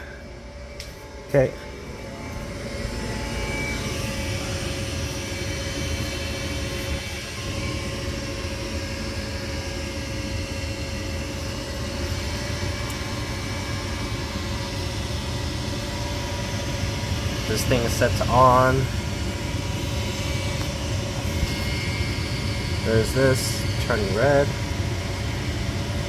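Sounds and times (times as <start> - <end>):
furnace motor whirring hum: 0.0 - 26.0.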